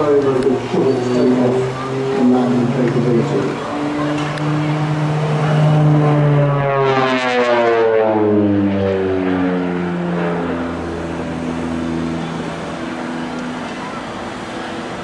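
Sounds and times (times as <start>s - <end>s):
turboprop aircraft droning: 0.0s - 15.0s.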